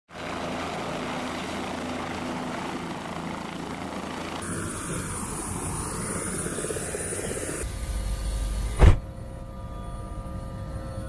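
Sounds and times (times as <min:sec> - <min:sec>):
helicopter engine and rotor: 0:00.1 - 0:11.0.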